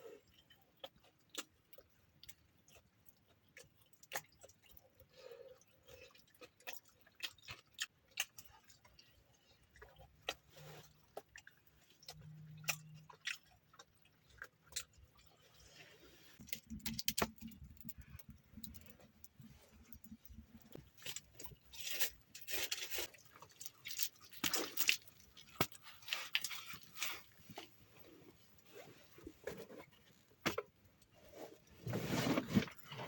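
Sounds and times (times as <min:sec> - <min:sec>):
crunchy chewing and biting: 0:00.0 - 0:31.7.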